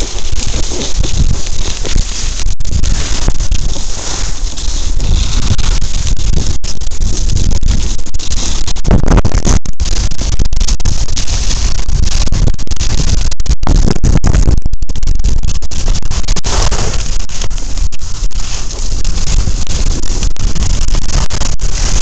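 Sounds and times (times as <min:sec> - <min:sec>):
skis scraping on snow: 0:00.0 - 0:08.8, 0:09.8 - 0:12.9, 0:16.0 - 0:22.0
wind buffeting microphone: 0:00.0 - 0:22.0.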